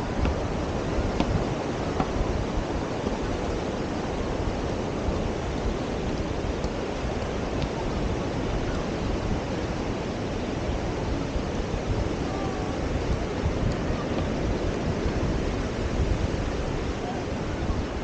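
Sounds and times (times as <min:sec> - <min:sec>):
surf on sandy beach: 0:00.0 - 0:18.0
wind buffeting microphone: 0:00.0 - 0:18.0.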